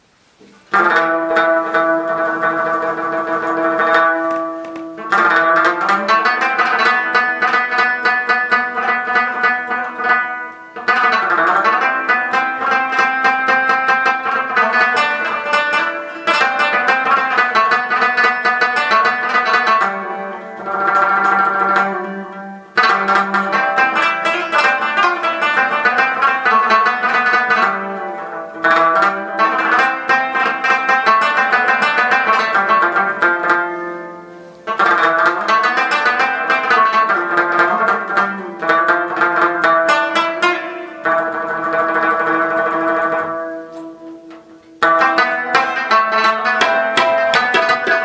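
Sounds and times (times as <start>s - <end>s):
plucked string instrument music: 0.0s - 48.0s.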